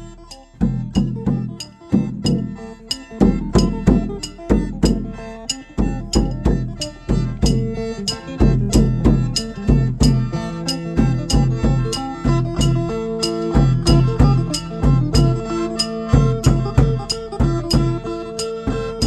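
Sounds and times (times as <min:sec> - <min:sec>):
lute and mouth organ folk music: 0:00.0 - 0:19.0
steady drum beat: 0:00.0 - 0:19.0.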